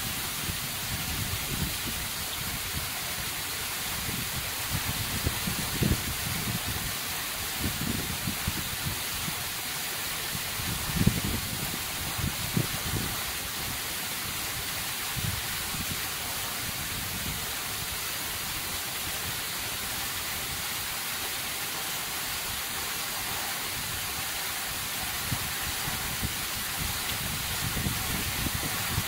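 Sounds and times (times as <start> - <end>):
waterfall hissing: 0.0 - 29.0.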